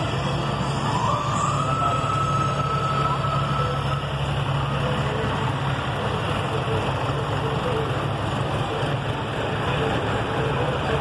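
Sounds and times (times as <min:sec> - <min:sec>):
tractor engines humming: 0:00.0 - 0:11.0.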